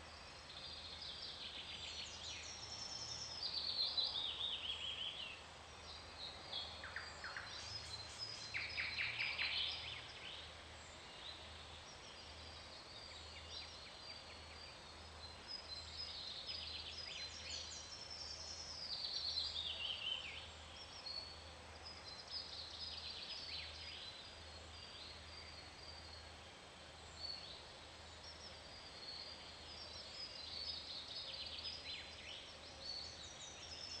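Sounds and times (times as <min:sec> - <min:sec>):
faint bird chirping: 0:00.0 - 0:34.0.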